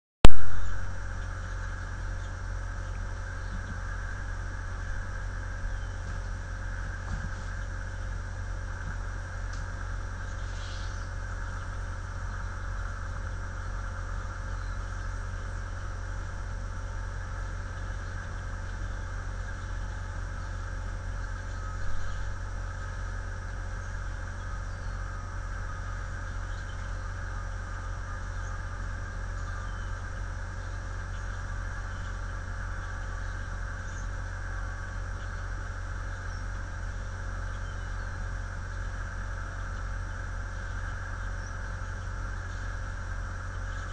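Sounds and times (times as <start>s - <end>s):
electrical hum and hiss: 0.2s - 43.9s.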